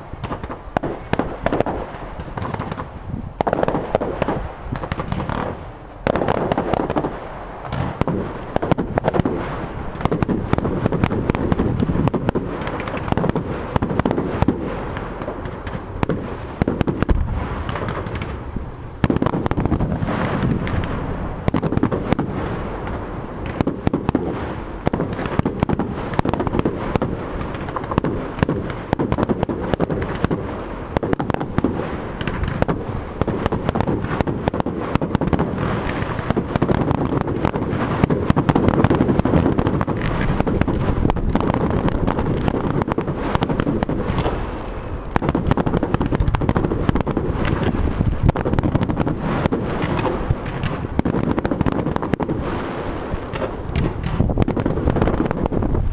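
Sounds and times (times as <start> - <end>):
fireworks bursting and crackling: 0.0 - 55.9.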